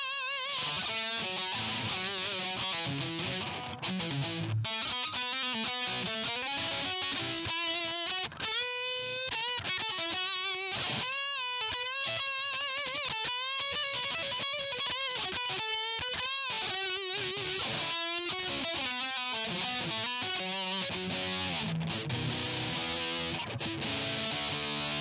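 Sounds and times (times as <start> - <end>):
distorted electric guitar lead: 0.0 - 25.0.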